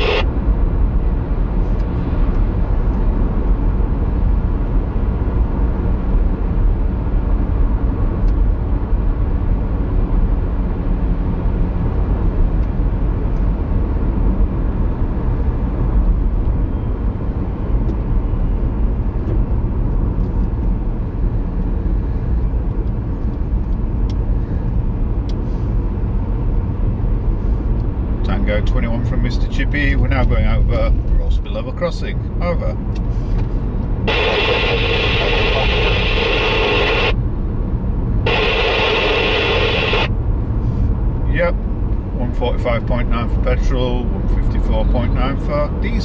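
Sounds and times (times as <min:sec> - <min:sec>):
car engine and tyre noise: 0:00.0 - 0:46.0.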